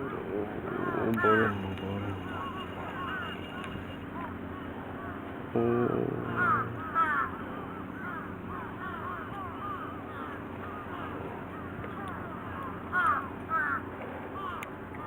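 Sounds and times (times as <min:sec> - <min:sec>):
flock of birds calling: 0:00.0 - 0:05.5, 0:06.2 - 0:15.0
faint low hum: 0:00.0 - 0:13.8.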